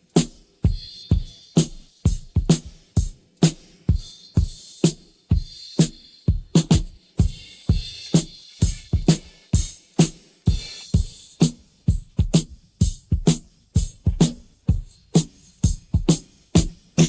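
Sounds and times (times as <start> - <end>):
rock drum beat: 0.0 - 17.0.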